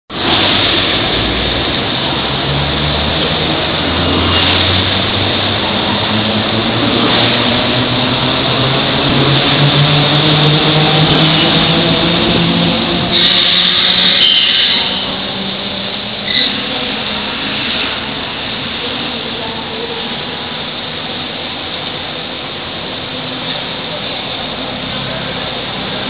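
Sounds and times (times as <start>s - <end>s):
train rushing past: 0.1s - 26.0s.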